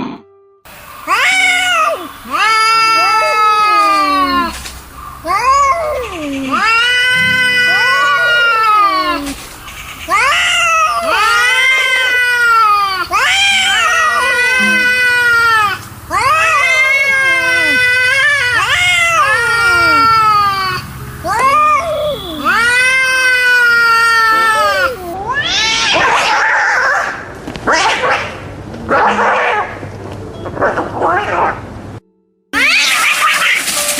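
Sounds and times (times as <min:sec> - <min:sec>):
angry cats yowling: 0:01.0 - 0:09.4, 0:10.1 - 0:29.8, 0:32.6 - 0:33.8.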